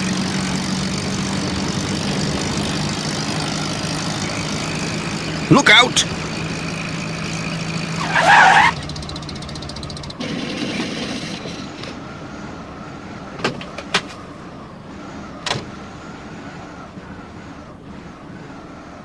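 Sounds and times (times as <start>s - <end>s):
van engine rattling: 0.0s - 19.0s.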